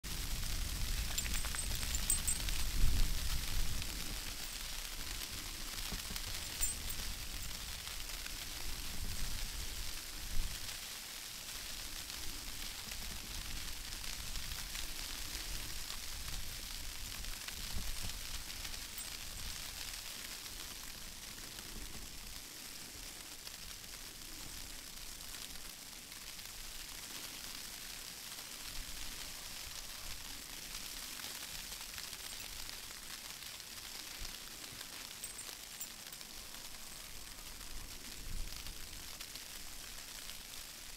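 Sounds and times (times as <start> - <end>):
outdoor hiss: 0.0 - 40.9.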